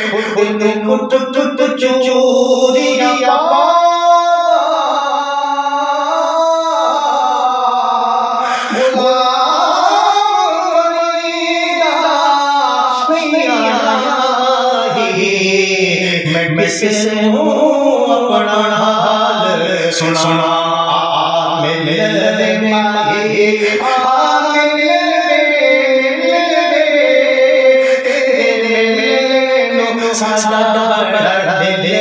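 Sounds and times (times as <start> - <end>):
man singing solo: 0.0 - 32.0.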